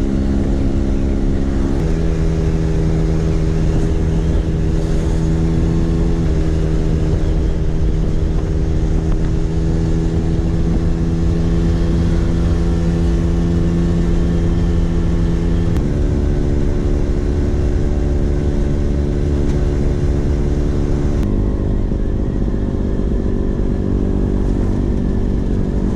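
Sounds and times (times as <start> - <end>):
scooter two-stroke engine running: 0.0 - 25.9.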